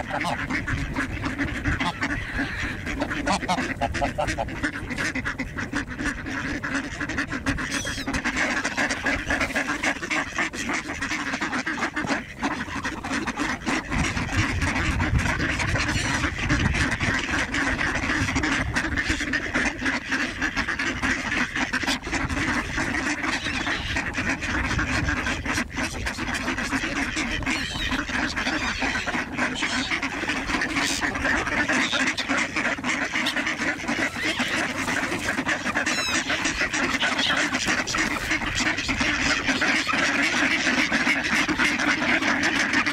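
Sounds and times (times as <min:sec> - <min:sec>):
ducks quacking: 0:00.0 - 0:42.9
geese honking: 0:00.0 - 0:42.9.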